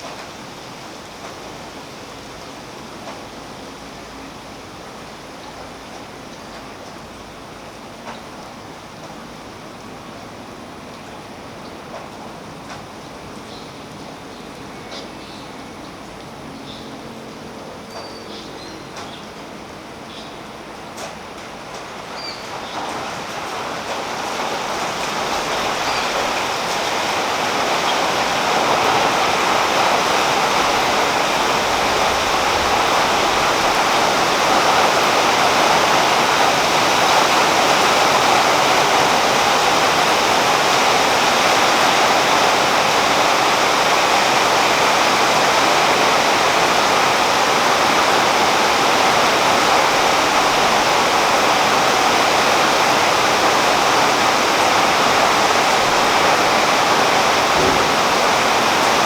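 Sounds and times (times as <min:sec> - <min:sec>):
rain on leaves: 0:00.0 - 0:59.0.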